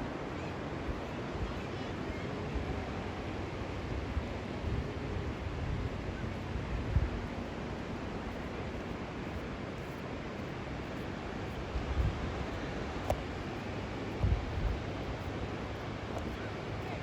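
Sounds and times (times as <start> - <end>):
wind buffeting microphone: 0.0 - 10.3, 10.9 - 17.0.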